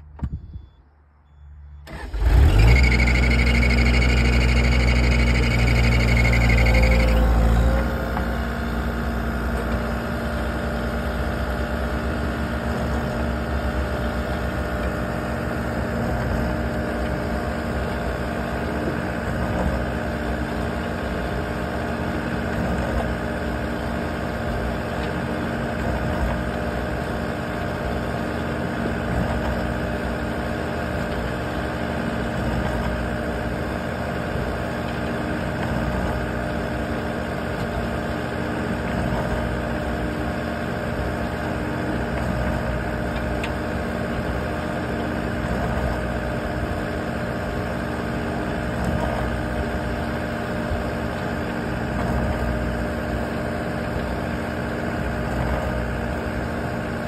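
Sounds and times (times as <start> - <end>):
loader engine running: 0.0 - 57.0.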